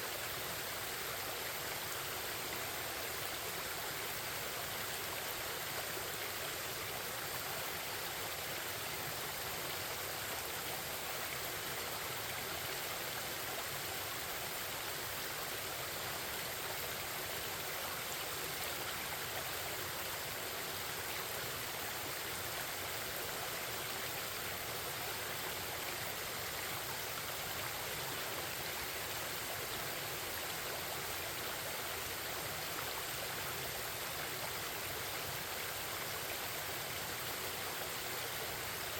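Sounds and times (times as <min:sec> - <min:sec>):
forest stream babbling: 0:00.0 - 0:38.9.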